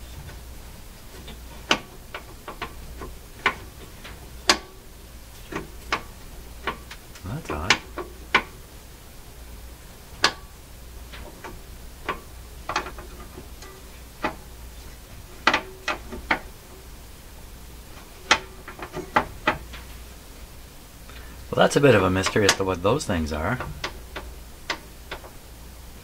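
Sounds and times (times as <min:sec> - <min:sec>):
metal posts clicking and knocking: 0:01.0 - 0:08.7, 0:10.2 - 0:16.9, 0:17.9 - 0:20.0, 0:21.1 - 0:25.4.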